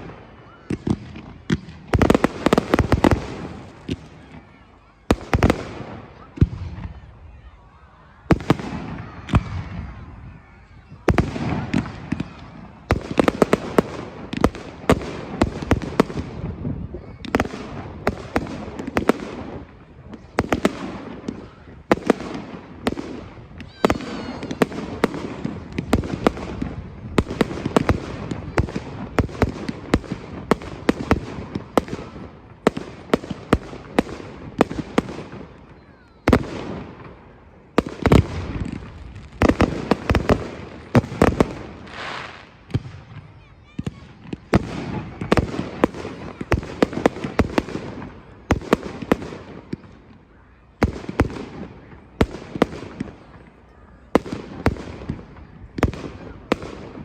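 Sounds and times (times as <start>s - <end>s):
fireworks bursting with echoing bangs: 0.0s - 7.4s, 8.3s - 57.0s.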